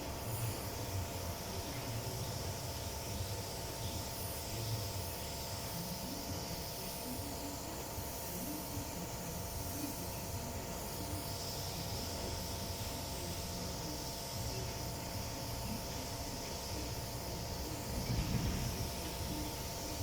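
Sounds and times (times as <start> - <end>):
machine hum: 0.0 - 20.0
steady hiss: 0.0 - 20.0.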